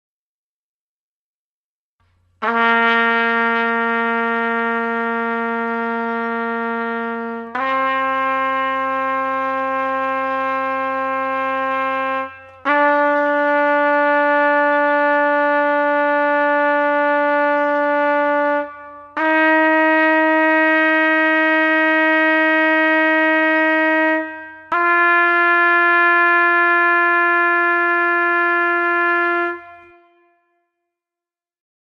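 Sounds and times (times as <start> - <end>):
trumpet playing held notes: 2.4 - 30.6.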